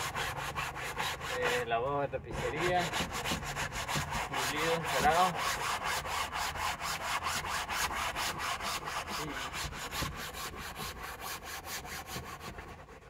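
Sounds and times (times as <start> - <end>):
fabric being scrubbed by hand: 0.0 - 13.0.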